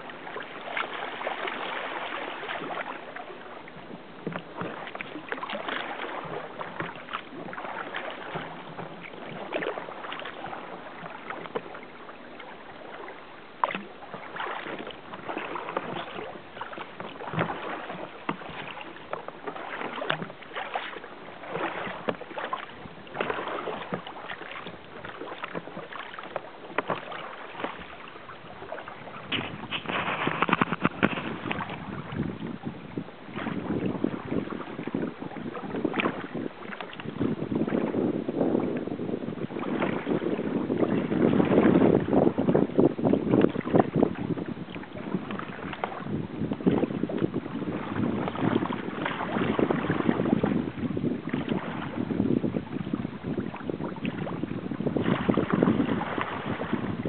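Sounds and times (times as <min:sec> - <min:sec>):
water splashing against kayak hull: 0:00.0 - 0:57.0.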